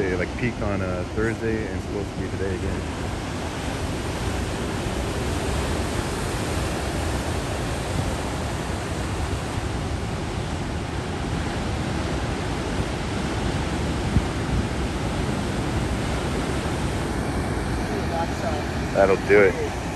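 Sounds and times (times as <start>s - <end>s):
ocean surf roaring: 0.0s - 19.9s.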